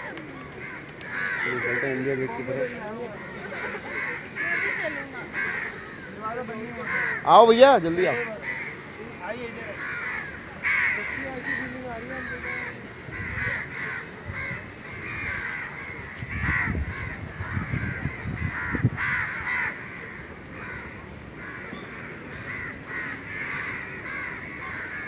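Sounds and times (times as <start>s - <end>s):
crows cawing: 0.0s - 25.0s.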